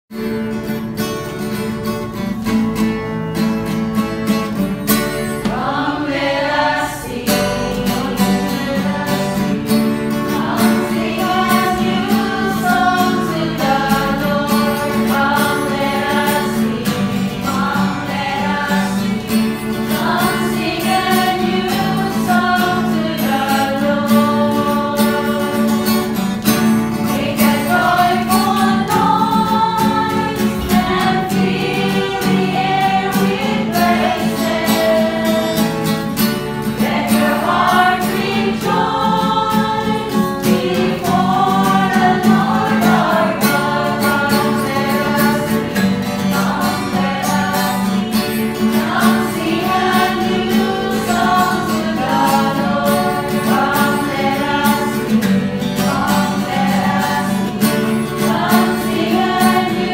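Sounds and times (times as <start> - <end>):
women singing together: 5.1 - 59.9.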